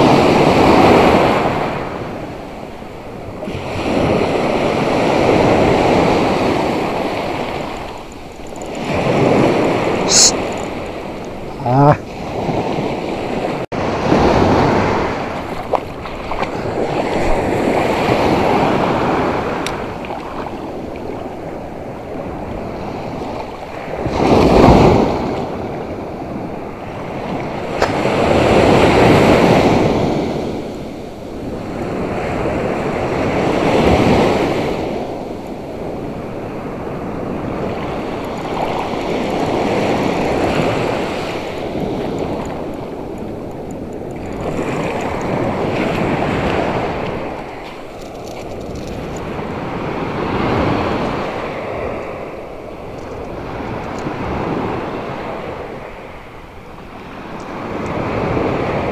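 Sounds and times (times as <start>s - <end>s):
waves breaking on sand: 0.0s - 58.9s.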